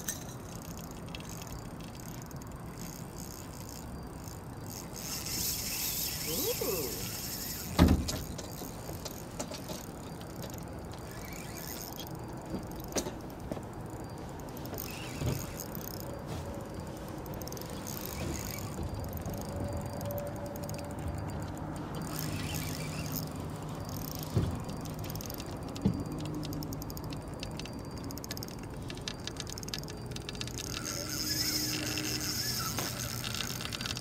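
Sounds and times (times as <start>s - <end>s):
fishing reel gears whirring: 0.0s - 34.0s
reel clicks: 0.0s - 34.0s.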